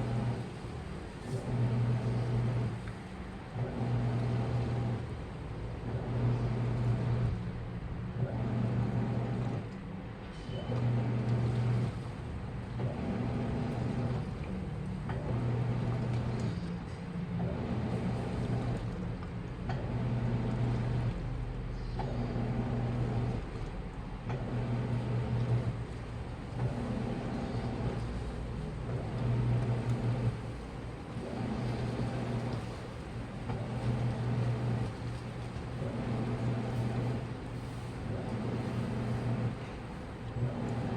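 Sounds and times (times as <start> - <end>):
washing machine drum motor humming: 0.0 - 40.9.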